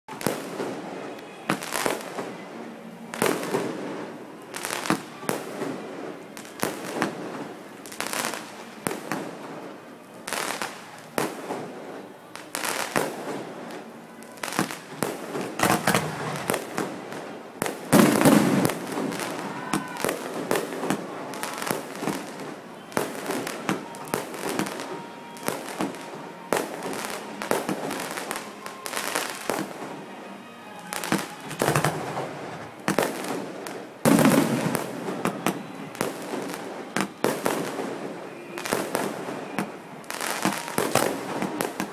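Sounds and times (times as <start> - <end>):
fireworks bursting: 0.1 - 41.9.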